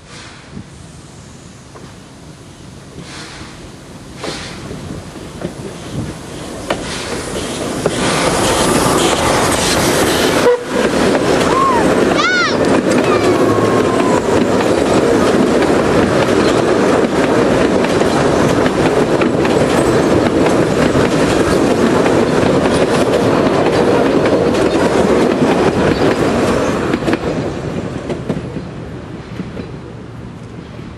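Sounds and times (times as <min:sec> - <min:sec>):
train wheels clattering over rail joints: 0:02.9 - 0:30.6.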